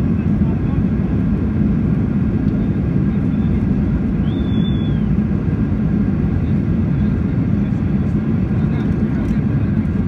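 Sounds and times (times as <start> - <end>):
airplane rumbling on the ground: 0.0 - 10.0.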